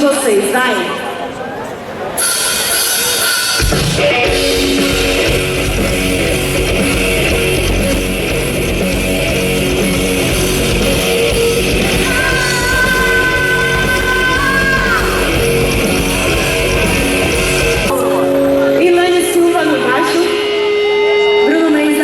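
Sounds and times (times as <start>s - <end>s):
rock band playing: 2.2s - 22.0s.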